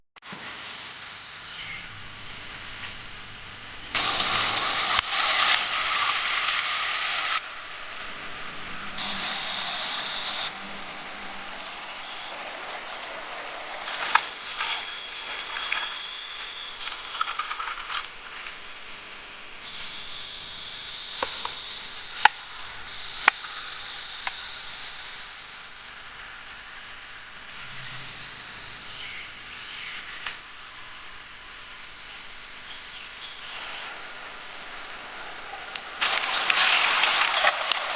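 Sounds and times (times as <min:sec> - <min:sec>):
food sizzling: 0:00.5 - 0:29.2, 0:30.1 - 0:37.9.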